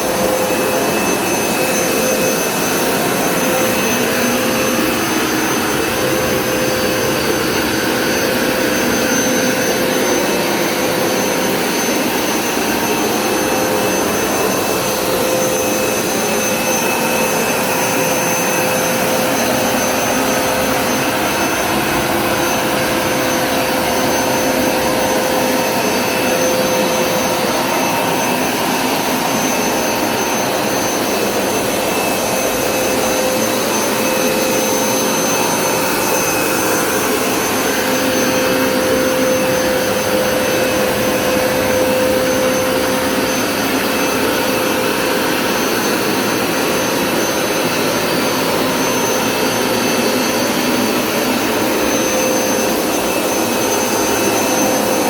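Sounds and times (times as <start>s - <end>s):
carpet cleaner whirring: 0.0s - 55.0s.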